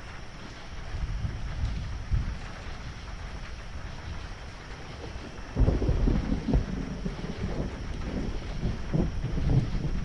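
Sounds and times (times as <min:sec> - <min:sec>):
steady rain hiss: 0:00.0 - 0:10.0
thunder rumbling: 0:00.0 - 0:10.0.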